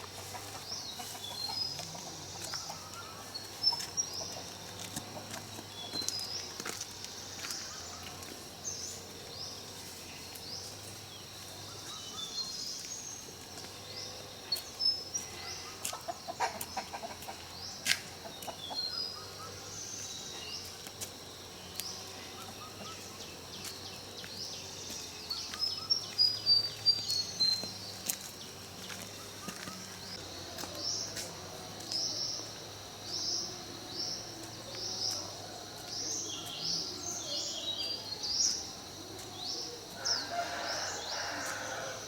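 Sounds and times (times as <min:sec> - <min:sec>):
birds chirping: 0:00.0 - 0:20.9, 0:21.5 - 0:42.0.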